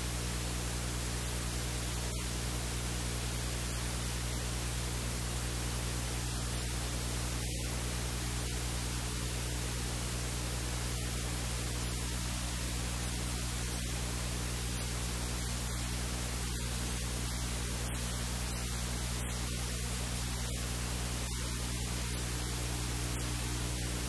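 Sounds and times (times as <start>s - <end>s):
hiss and static: 0.0s - 24.0s
low electrical hum: 0.0s - 24.0s.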